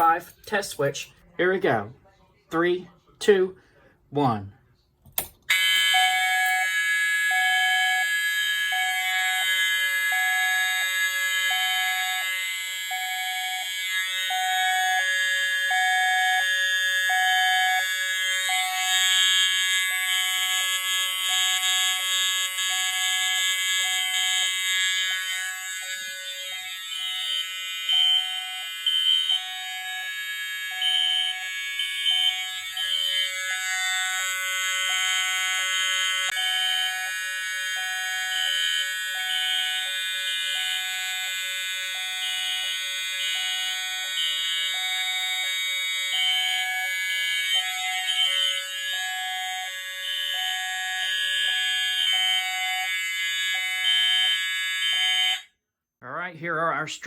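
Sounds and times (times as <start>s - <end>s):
steady buzzing alarm horn: 0.0s - 0.8s, 5.5s - 55.6s
low pulsing alarm tone: 5.5s - 55.5s.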